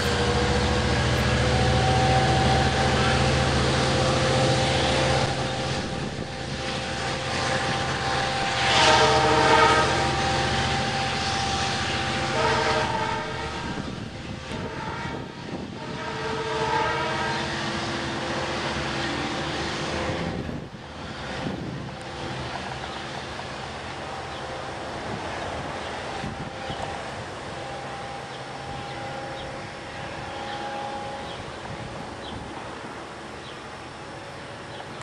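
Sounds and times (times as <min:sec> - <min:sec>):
train horn chord blasts: 0:00.0 - 0:25.2, 0:25.8 - 0:34.7
diesel locomotive engine rumbling: 0:00.0 - 0:35.0.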